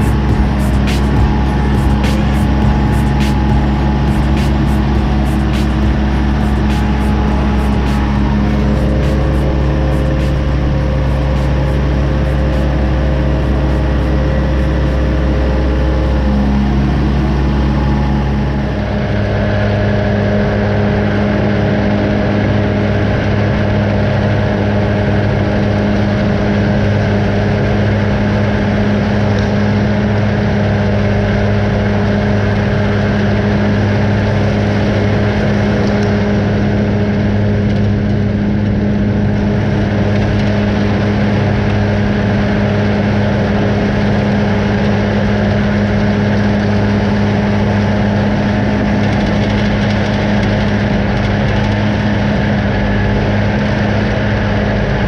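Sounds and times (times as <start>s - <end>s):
tractor and mower running: 0.0s - 55.0s.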